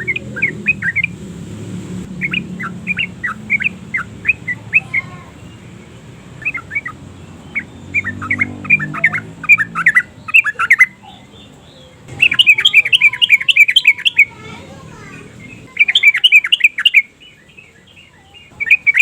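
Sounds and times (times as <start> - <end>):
bird chattering calls: 0.0 - 19.0.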